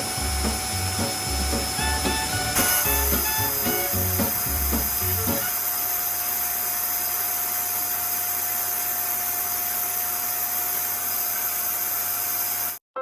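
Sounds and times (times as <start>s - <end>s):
vacuum cleaner running: 0.0s - 12.8s.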